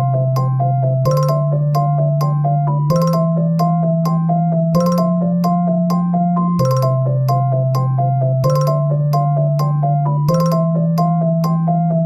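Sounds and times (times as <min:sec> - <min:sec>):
bell-like ringtone melody: 0:00.0 - 0:11.9.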